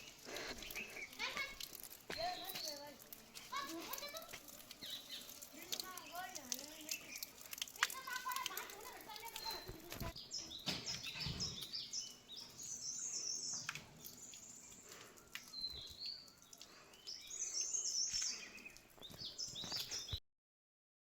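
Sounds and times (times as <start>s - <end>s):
faint outdoor hiss: 0.0s - 20.2s
small birds chirping: 0.0s - 20.2s.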